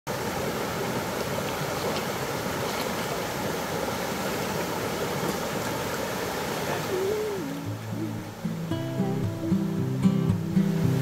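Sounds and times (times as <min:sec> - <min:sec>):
stream flowing over rocks: 0:00.1 - 0:11.0.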